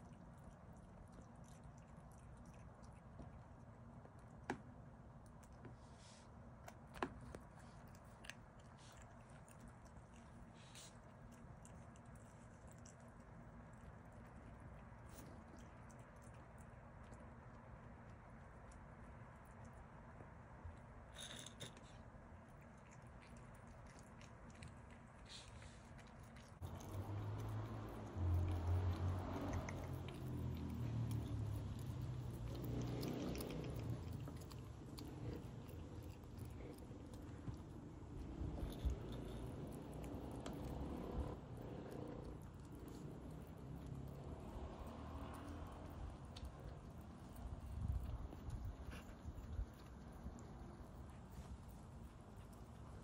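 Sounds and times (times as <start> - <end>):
opossum chewing: 0.0 - 53.0.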